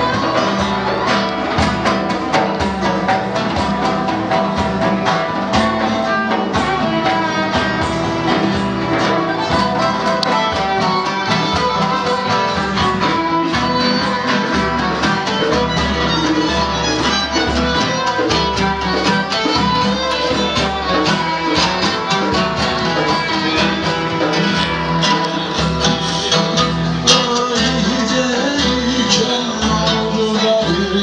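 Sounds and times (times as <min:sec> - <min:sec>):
bowed violin line: 0:00.0 - 0:31.0
drum beats: 0:00.0 - 0:31.0
plucked string notes: 0:00.0 - 0:31.0.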